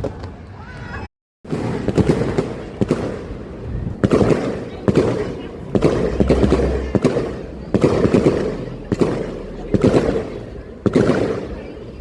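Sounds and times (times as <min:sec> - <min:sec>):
fireworks exploding: 0:01.5 - 0:12.0.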